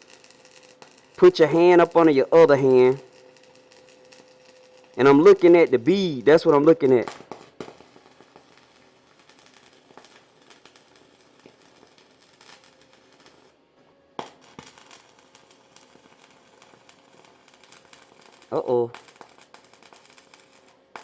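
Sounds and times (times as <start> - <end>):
welding arc crackling: 0.0 - 13.6, 14.2 - 21.0.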